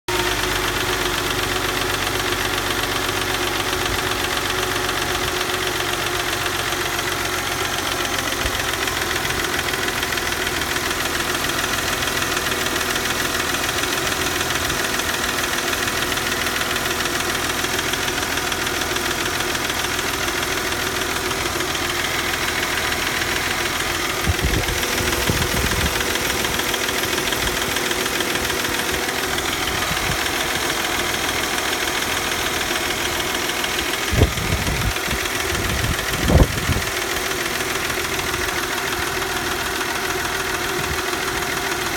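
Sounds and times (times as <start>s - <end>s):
car engine idling with knocking: 0.1s - 41.9s.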